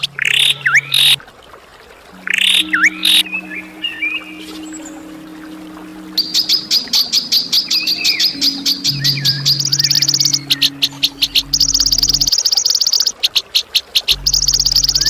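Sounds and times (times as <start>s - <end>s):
songbird harsh chirps: 2.2s - 15.0s.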